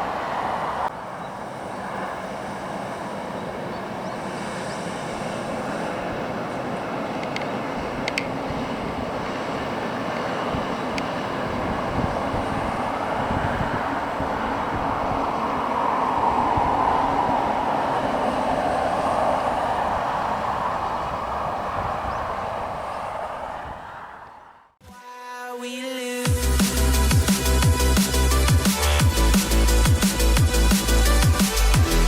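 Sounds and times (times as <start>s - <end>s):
freight train rolling past: 0.0s - 24.8s, 26.3s - 32.0s.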